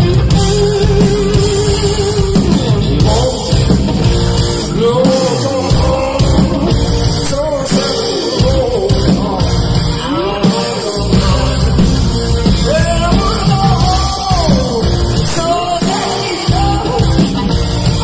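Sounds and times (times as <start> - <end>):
blues-rock band playing: 0.0 - 18.0
man singing: 0.0 - 18.0.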